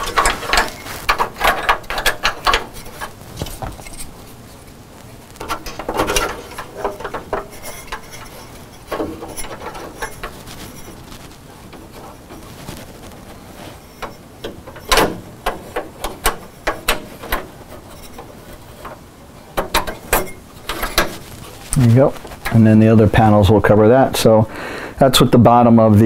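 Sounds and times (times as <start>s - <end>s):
metal plate clicking and scraping: 0.0s - 4.8s, 5.4s - 22.6s.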